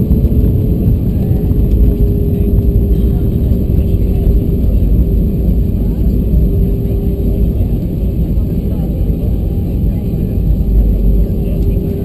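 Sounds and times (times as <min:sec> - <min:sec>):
aircraft cabin low rumble: 0:00.0 - 0:12.0
mid-pitched hum: 0:00.0 - 0:12.0.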